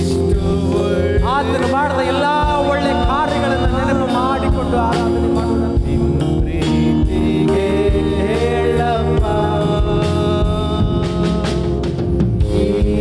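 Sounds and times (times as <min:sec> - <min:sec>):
percussion beat: 0:00.0 - 0:13.0
person singing: 0:00.0 - 0:13.0
sustained instrumental chords: 0:00.0 - 0:13.0.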